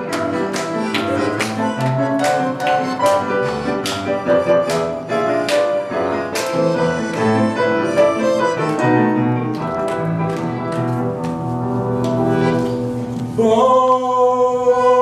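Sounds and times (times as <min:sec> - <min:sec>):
piano playing children's song: 0:00.0 - 0:13.8.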